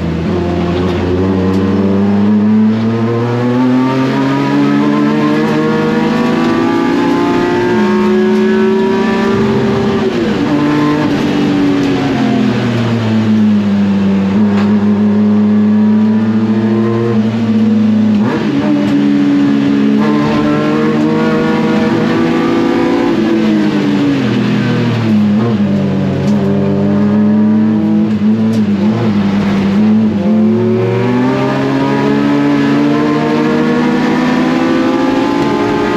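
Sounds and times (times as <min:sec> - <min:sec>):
race car engine running hard: 0:00.0 - 0:35.9.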